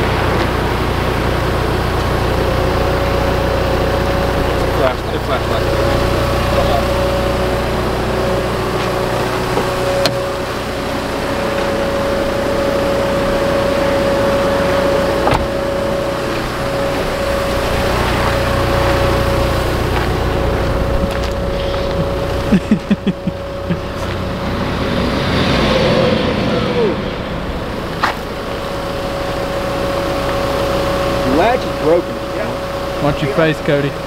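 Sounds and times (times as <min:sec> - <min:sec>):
diesel engine idling: 0:00.0 - 0:34.0
steady whine: 0:00.0 - 0:34.0.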